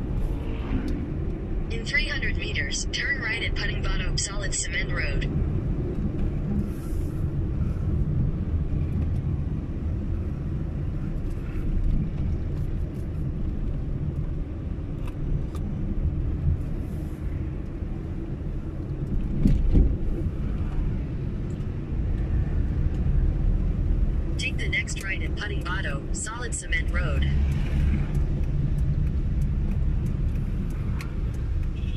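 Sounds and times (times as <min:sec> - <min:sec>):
vehicle road and engine rumble: 0:00.0 - 0:31.9.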